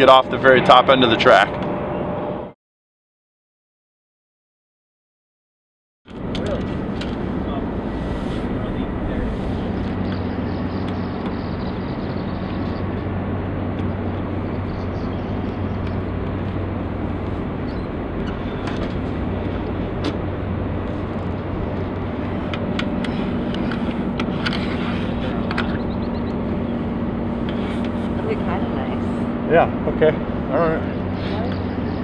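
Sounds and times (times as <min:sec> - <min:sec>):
low engine-like hum: 0:00.0 - 0:02.6, 0:06.1 - 0:32.0.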